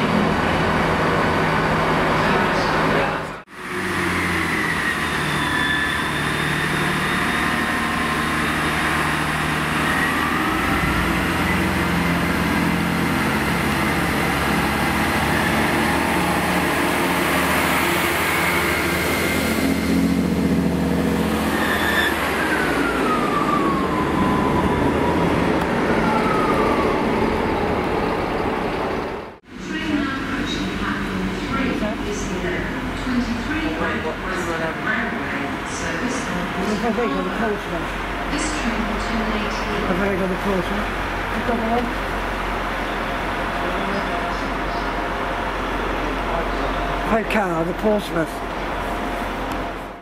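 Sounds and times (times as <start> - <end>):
diesel train engines droning: 0.0 - 50.0.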